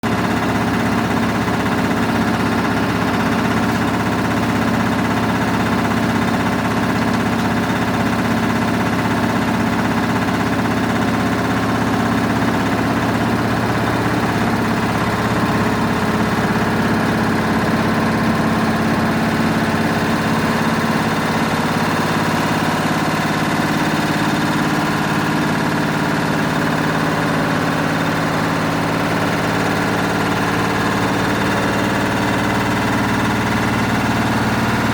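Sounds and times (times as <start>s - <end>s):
washing machine running: 0.0s - 34.9s.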